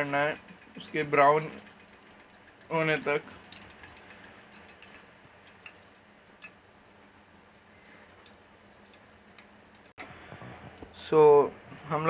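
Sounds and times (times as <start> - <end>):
oil ticking and crackling: 0.0 - 10.0.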